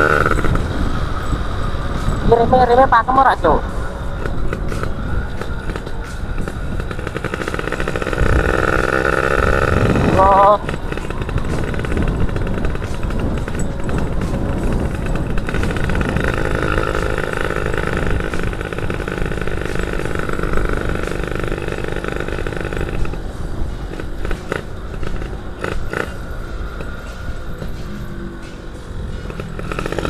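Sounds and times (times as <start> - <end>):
two-stroke motorcycle engine running: 0.0 - 30.0
wind rumbling on microphone: 0.0 - 30.0.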